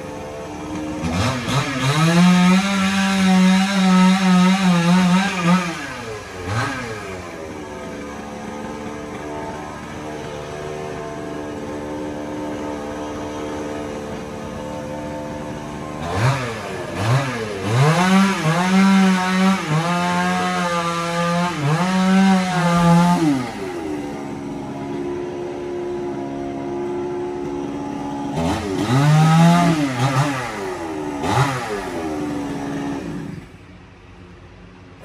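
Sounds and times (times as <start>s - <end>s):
power saw motor revving: 0.0s - 33.6s.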